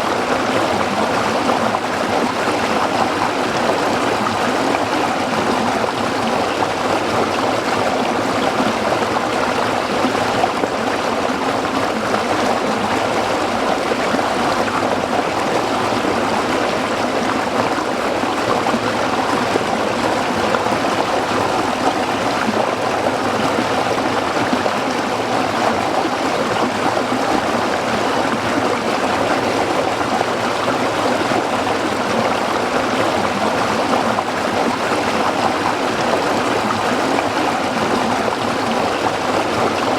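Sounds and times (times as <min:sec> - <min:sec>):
stream splashing over rocks: 0:00.1 - 0:39.9.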